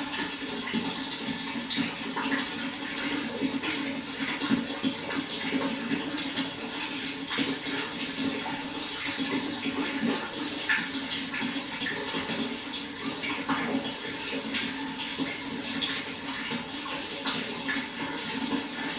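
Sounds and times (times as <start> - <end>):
water rushing and splashing: 0.0 - 18.9.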